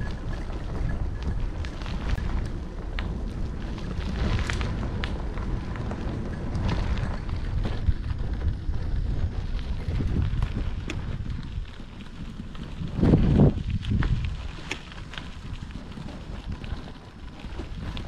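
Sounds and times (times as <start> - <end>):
bicycle tyre rumble: 0.0 - 18.0
sharp clicks and ticks: 0.0 - 18.0
wind buffeting microphone: 0.0 - 18.0.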